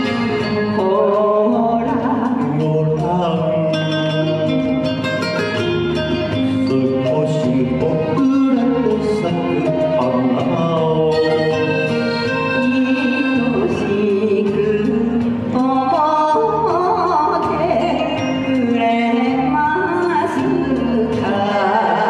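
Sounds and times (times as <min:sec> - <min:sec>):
woman and man singing duet: 0:00.0 - 0:04.6, 0:06.4 - 0:22.0
instrumental backing music: 0:00.0 - 0:22.0.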